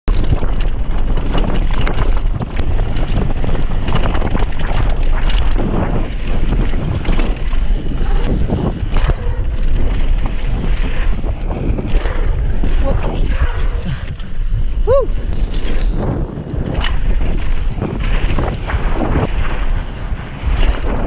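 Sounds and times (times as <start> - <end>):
bike rattling: 0.1 - 21.0
wind buffeting microphone: 0.1 - 21.0.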